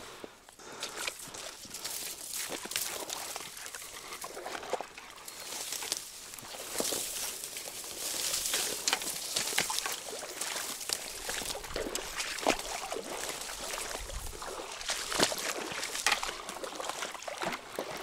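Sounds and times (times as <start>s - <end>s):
water trickling and lapping: 0.0s - 18.0s
dry reeds rustling and crackling: 1.1s - 17.6s.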